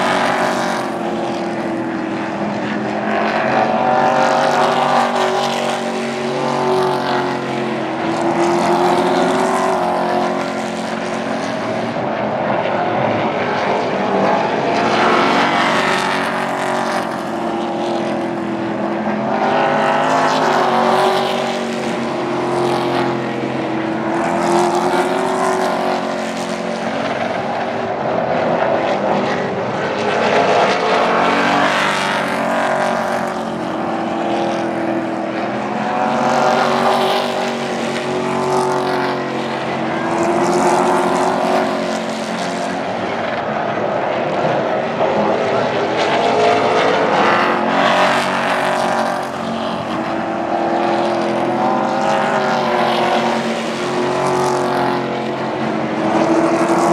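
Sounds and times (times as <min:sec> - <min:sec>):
race truck engines passing: 0:00.0 - 0:56.9.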